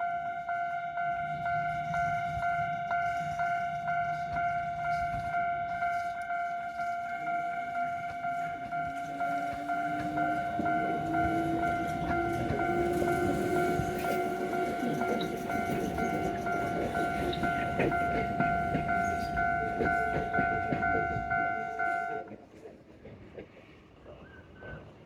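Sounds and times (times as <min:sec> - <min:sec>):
railroad crossing bell ringing: 0:00.0 - 0:22.4
train rumbling and clattering: 0:00.0 - 0:25.0.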